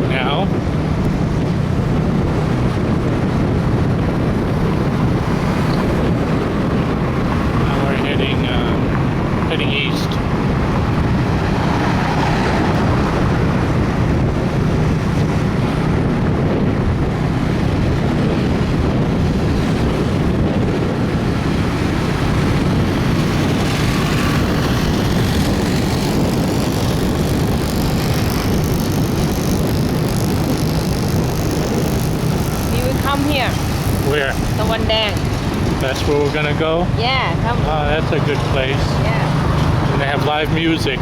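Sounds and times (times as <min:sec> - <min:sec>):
motorbike engine drone: 0:00.0 - 0:41.0
wind and road rush: 0:00.0 - 0:41.0.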